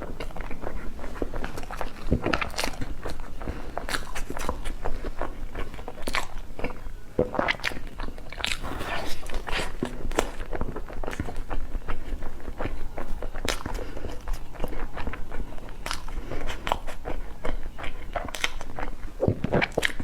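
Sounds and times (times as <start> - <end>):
chewing crunches: 0.0 - 20.0.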